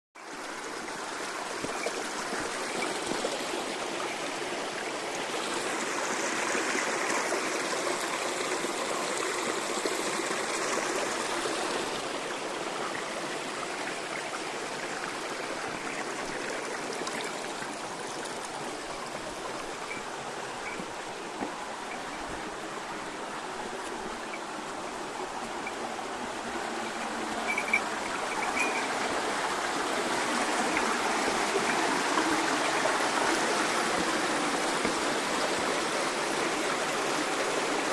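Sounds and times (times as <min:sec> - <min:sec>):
stream babbling: 0:00.2 - 0:37.9.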